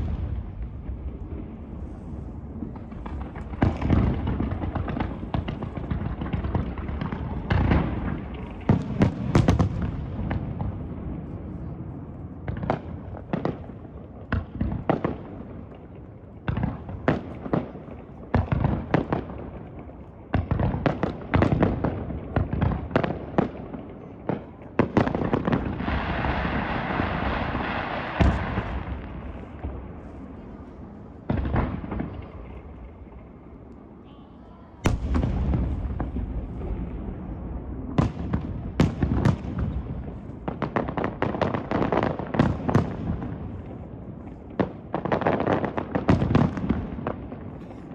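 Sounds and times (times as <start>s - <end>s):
fireworks booms and cracks: 0.0s - 34.0s, 34.8s - 47.9s.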